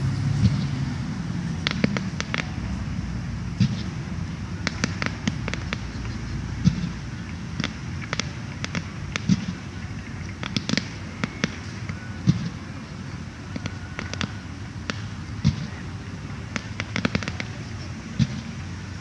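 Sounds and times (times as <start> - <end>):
fireworks bangs and crackles: 0.0 - 19.0
low background noise: 0.0 - 19.0.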